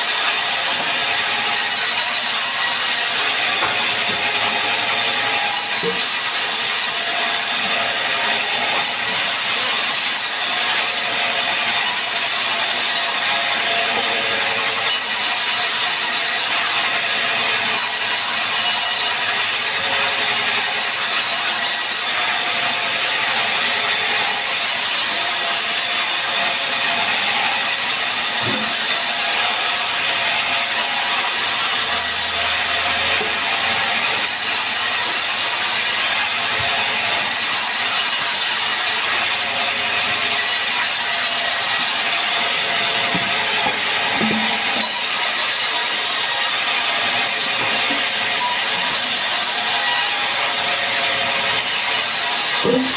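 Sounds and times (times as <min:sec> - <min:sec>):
band saw cutting wood: 0:00.0 - 0:52.9.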